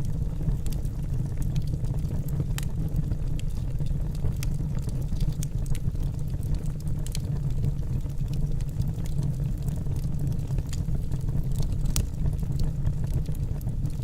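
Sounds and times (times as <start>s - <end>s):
fire roaring in a fireplace: 0.0s - 14.0s
wood crackling and popping: 0.0s - 14.0s.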